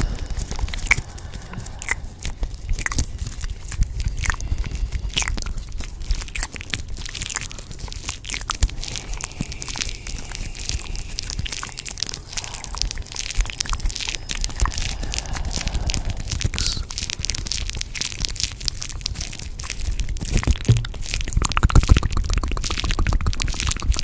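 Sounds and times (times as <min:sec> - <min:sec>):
dense crackling and crunching: 0:00.0 - 0:24.0.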